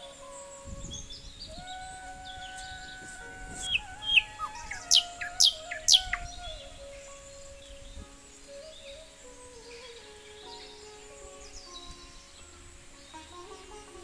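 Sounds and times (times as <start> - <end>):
birds chirping: 0.0 - 13.7
soft background music: 0.0 - 14.0.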